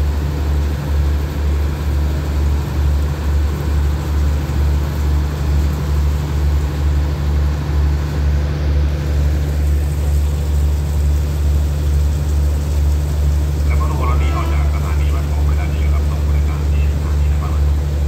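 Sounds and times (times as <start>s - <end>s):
diesel train engines idling: 0.0s - 18.0s.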